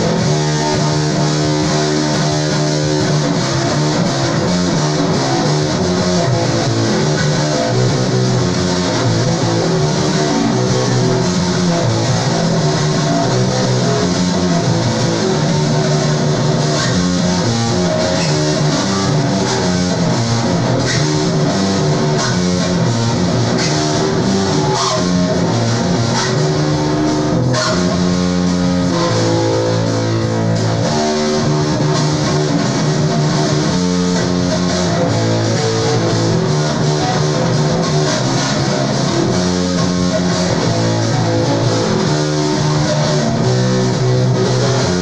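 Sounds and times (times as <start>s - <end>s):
bass guitar: 0.0s - 45.0s
electric guitar: 0.0s - 45.0s.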